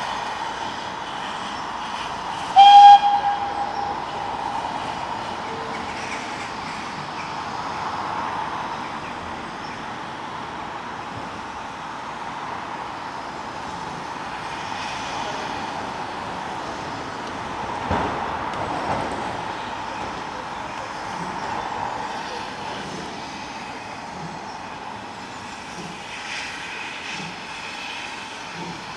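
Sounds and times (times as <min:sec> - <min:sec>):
train running: 0:00.0 - 0:28.9.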